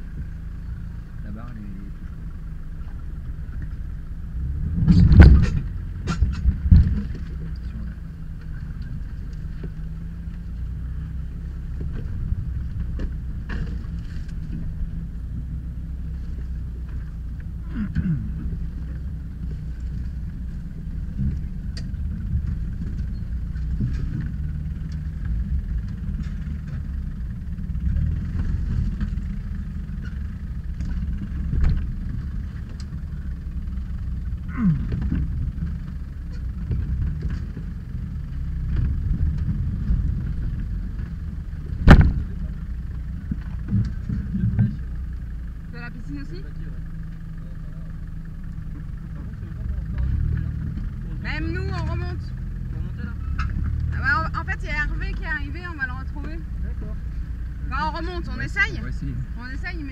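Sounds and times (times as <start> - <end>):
vehicle engine running low: 0.0 - 59.9.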